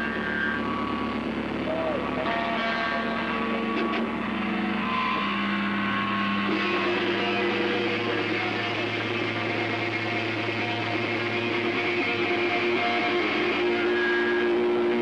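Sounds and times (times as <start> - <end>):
distorted electric guitars: 0.0 - 15.0.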